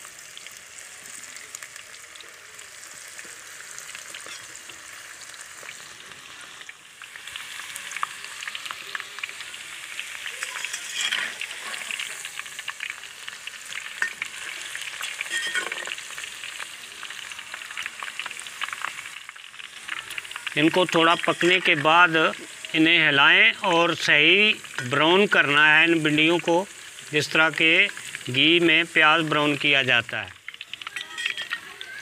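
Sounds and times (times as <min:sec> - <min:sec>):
food deep-frying sizzle: 0:00.0 - 0:32.0.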